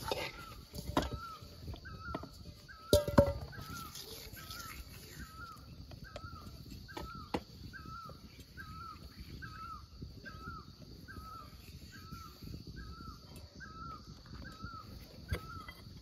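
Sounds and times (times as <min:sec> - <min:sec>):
bird calling: 0:00.0 - 0:16.0.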